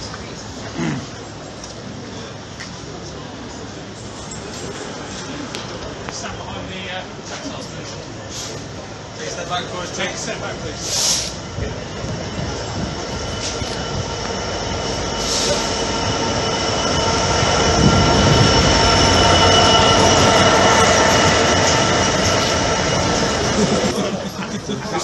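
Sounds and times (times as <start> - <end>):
diesel locomotive passing: 0.0 - 25.0.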